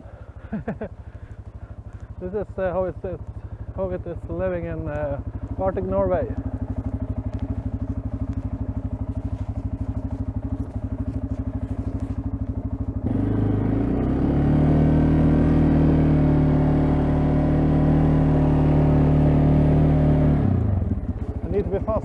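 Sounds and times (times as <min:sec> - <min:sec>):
atv engine running: 0:00.0 - 0:22.0
atv plowing snow: 0:00.0 - 0:22.0.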